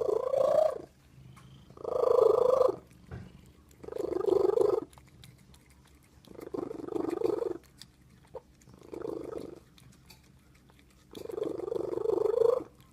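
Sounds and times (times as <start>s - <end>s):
cat purring: 0.0s - 12.9s.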